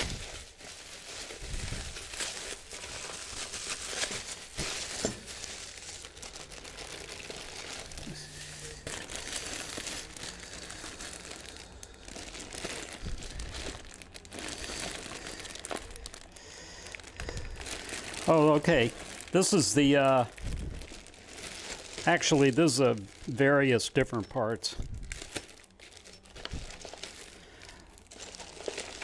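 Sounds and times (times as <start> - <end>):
bubble wrap and plastic crinkling: 0.0 - 29.0.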